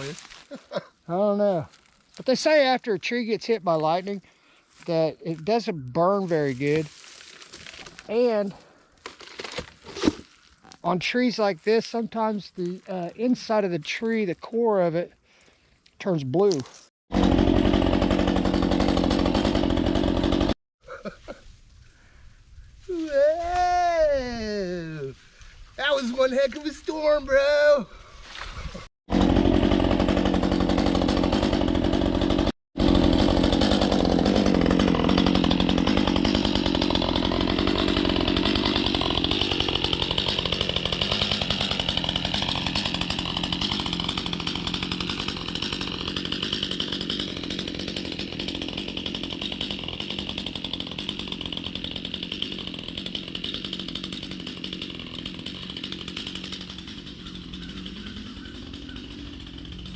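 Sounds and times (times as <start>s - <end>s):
chainsaw cutting: 0.0s - 21.8s, 22.8s - 59.9s.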